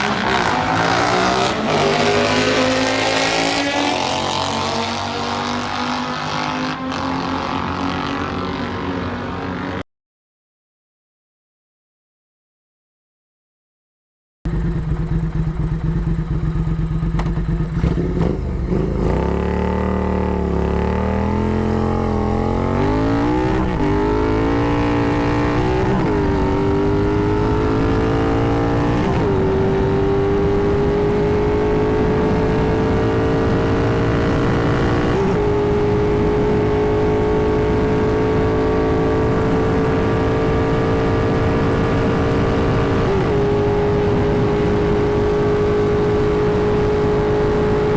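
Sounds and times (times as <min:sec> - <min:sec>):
motorcycle engine accelerating: 0:00.0 - 0:09.8, 0:14.5 - 0:47.9.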